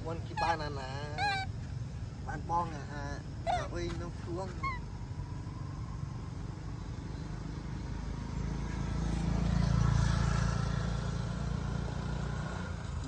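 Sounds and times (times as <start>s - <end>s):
vehicle engine rumble passing: 0.0s - 13.0s.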